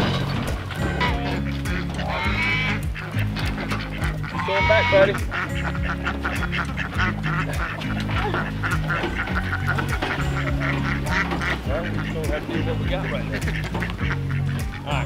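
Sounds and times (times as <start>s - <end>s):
background music: 0.0s - 15.0s
ducks quacking: 0.0s - 15.0s.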